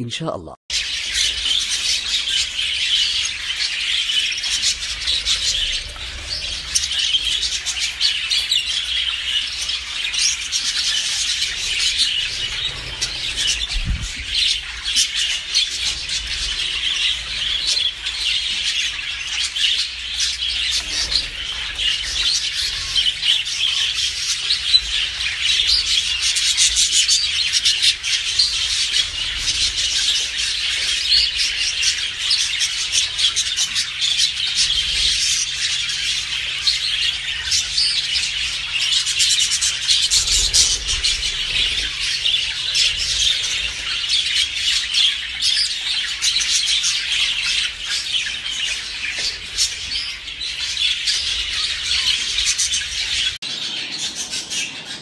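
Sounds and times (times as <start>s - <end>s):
flock of budgerigars chattering: 0.0s - 55.0s.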